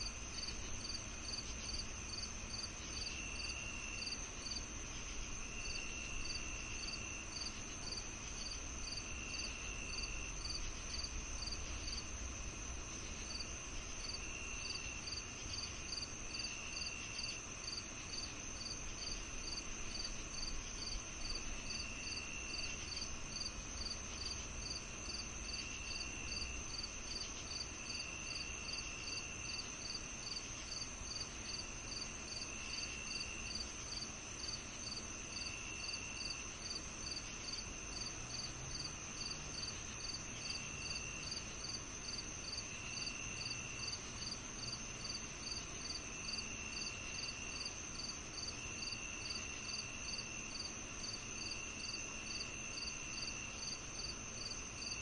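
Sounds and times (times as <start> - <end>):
continuous high insect trill: 0.0 - 55.0
regular cricket chirp: 0.0 - 55.0.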